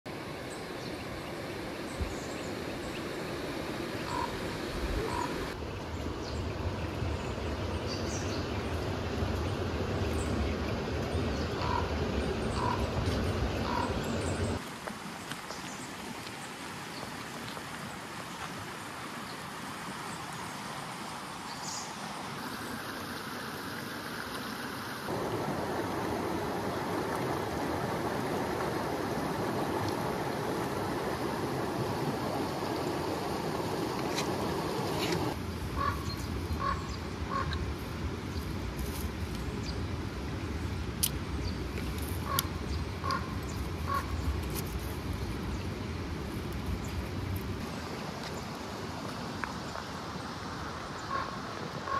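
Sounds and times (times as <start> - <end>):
stream running over rocks: 0.1 - 51.9.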